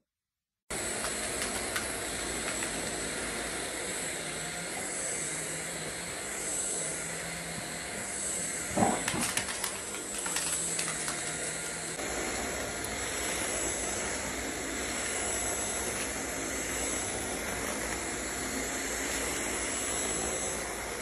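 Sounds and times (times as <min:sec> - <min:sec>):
vacuum cleaner whine: 0:00.7 - 0:21.0.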